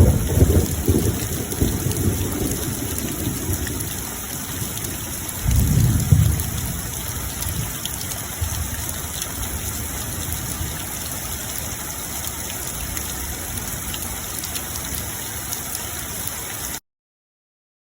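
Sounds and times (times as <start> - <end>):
steady rain hiss: 0.0 - 16.8.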